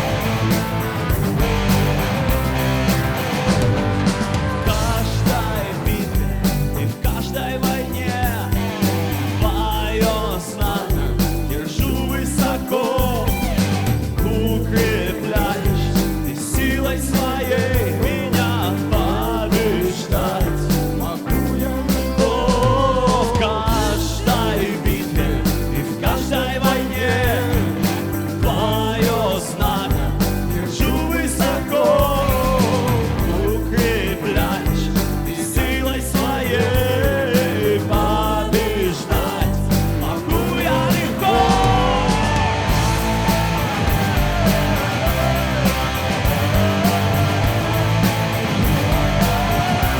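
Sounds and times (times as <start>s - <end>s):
band playing rock-style song: 0.0s - 49.9s
person singing: 0.0s - 49.9s.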